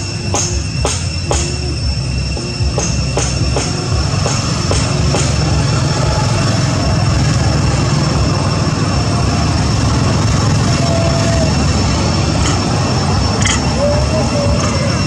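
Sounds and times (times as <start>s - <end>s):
faint high whine: 0.0s - 15.0s
loud low rumble: 0.0s - 15.0s.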